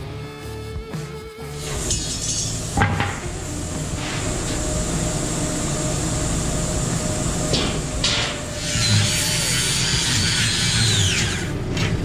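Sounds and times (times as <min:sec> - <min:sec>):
machine drone: 0:01.5 - 0:12.0.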